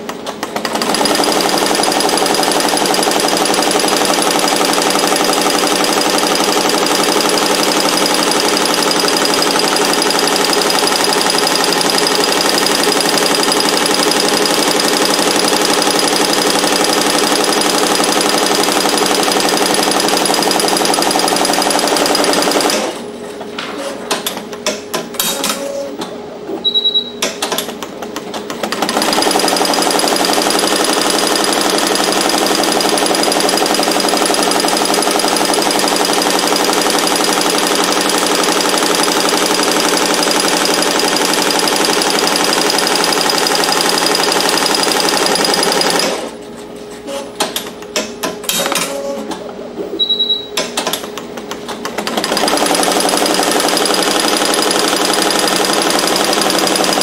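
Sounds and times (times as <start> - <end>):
embroidery machine stitching: 0.0 - 23.1, 27.4 - 46.4, 51.7 - 57.0
scattered clicks and knocks: 0.0 - 26.2, 27.2 - 46.3, 47.4 - 49.5, 50.5 - 57.0.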